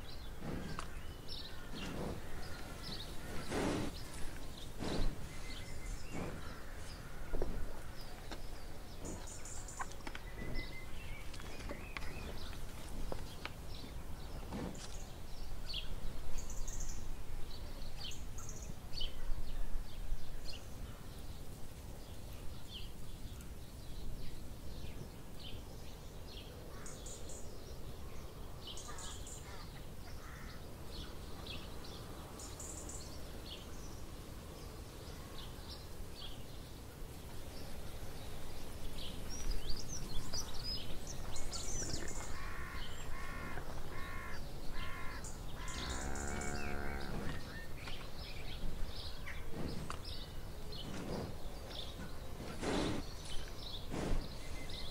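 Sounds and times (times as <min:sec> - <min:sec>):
birds chirping and singing: 0:00.0 - 0:17.0, 0:17.6 - 0:54.9.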